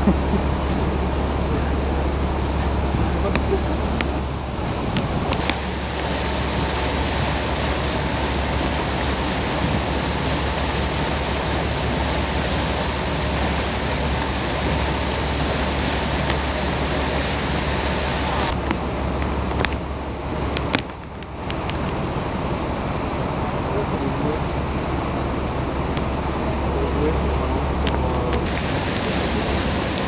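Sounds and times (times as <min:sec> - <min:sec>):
boat engine drone: 0:00.0 - 0:30.0
wake water rushing: 0:00.0 - 0:30.0
wind: 0:00.0 - 0:30.0.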